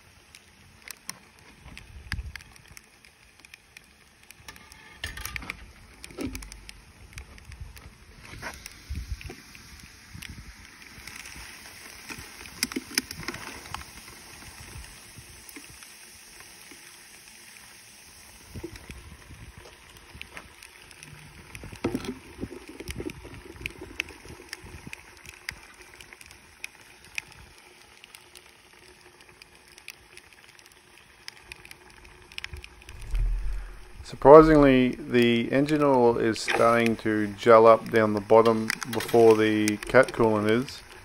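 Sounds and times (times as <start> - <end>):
liquid nitrogen hissing: 0.0 - 41.0
small clicks and crackles: 0.0 - 41.0.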